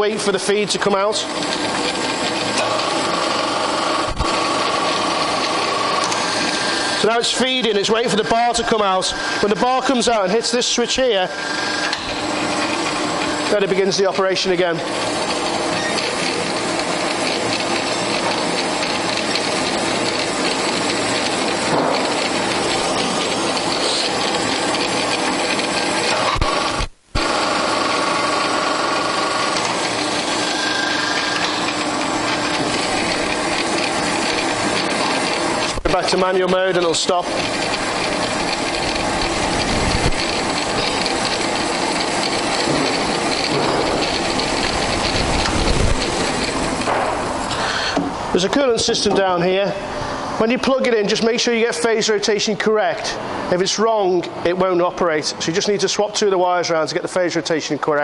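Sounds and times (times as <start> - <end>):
bandsaw running: 0.0 - 56.5.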